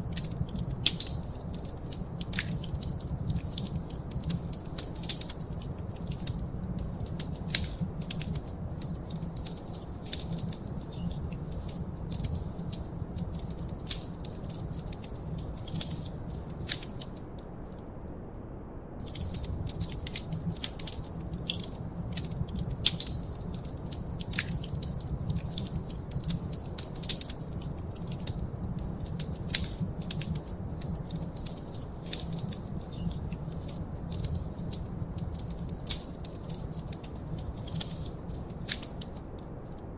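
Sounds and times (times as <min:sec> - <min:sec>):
wood fire crackling: 0:00.0 - 0:17.8, 0:19.0 - 0:39.9.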